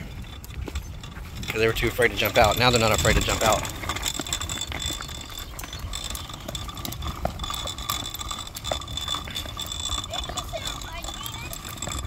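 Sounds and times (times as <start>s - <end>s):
wagon wheels rattling on concrete: 0.0s - 12.0s.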